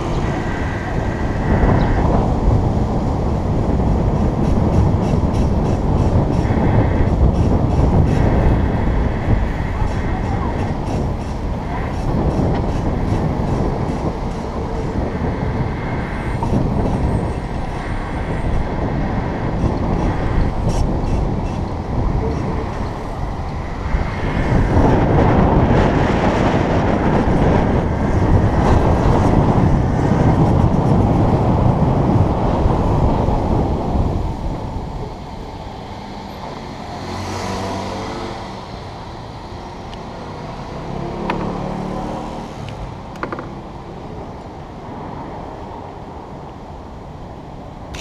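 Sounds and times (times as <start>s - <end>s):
road noise: 0.0s - 48.0s
street traffic: 0.0s - 48.0s
wind on microphone: 0.0s - 48.0s.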